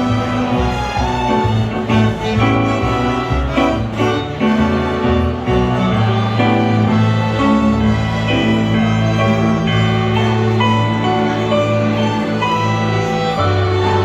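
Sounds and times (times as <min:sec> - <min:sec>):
string orchestra playing: 0:00.0 - 0:14.0.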